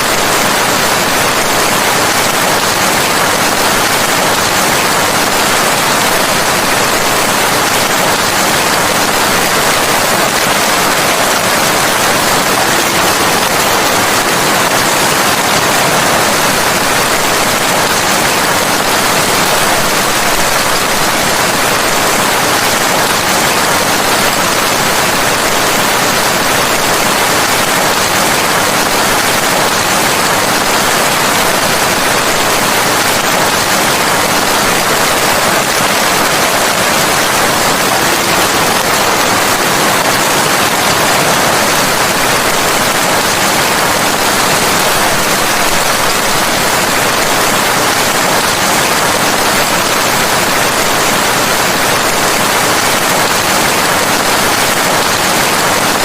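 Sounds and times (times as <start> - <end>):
loud steady rain: 0.0 - 56.0.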